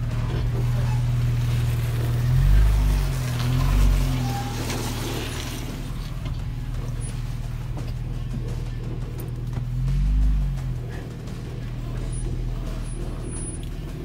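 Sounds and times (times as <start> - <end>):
engine running low: 0.0 - 14.0.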